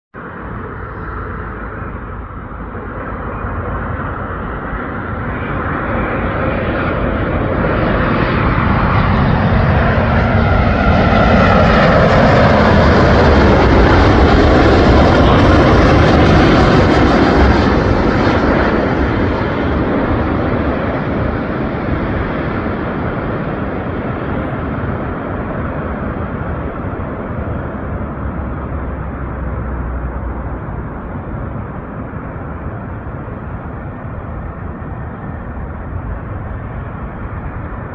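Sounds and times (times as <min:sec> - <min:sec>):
jet airliner flying past: 0:00.2 - 0:37.9.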